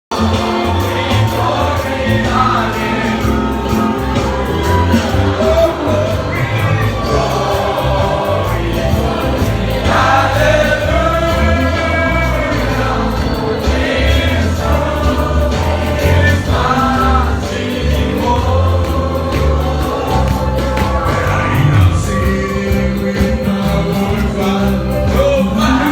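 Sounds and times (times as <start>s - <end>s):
choir singing gospel music: 0.1s - 25.9s
instrumental backing with bass line: 0.1s - 25.9s.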